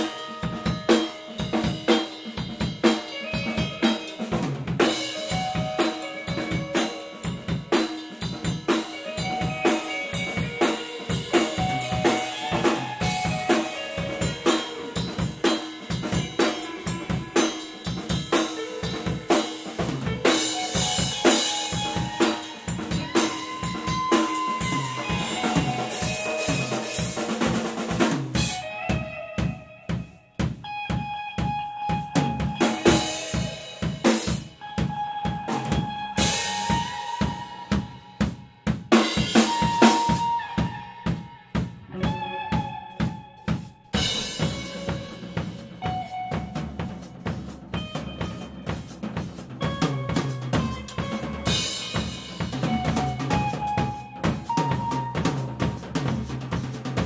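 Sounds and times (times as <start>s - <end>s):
drum kit playing: 0.0s - 57.0s.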